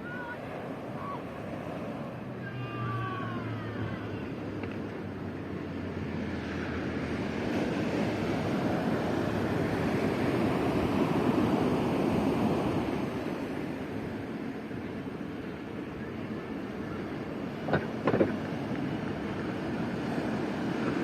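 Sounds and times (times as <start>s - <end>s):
surf washing on a beach: 0.0s - 21.0s.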